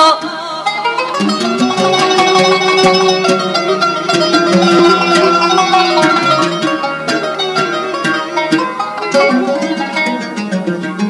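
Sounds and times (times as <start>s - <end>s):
plucked strings playing quick runs: 0.7s - 11.0s
sustained lower line: 1.2s - 10.4s.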